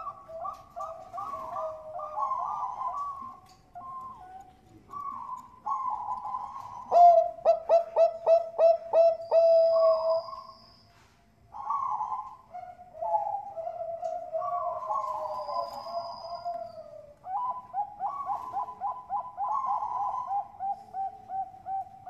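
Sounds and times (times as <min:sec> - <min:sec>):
dove cooing: 0:00.0 - 0:10.5, 0:11.5 - 0:22.0.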